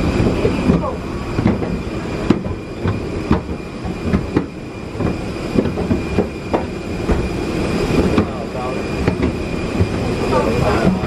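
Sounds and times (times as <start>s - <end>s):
steady rumble: 0.0s - 11.0s.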